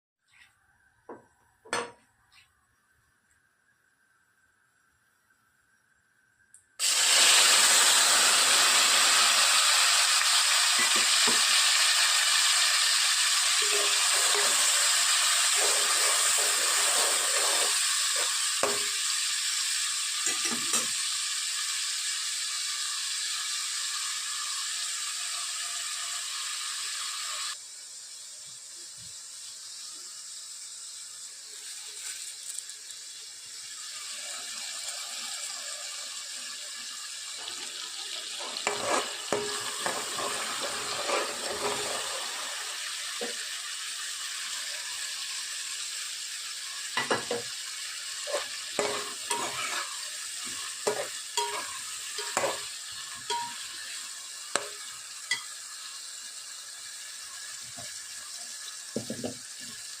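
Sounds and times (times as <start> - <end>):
food sizzling in a pan: 0.2 - 60.0.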